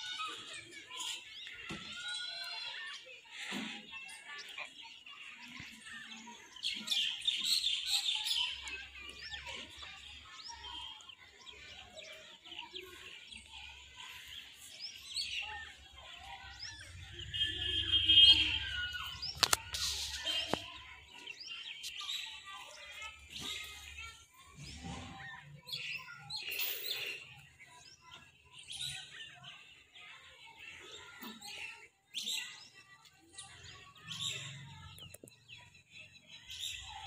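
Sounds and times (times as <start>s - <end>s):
birds chirping and singing: 0.0s - 37.0s.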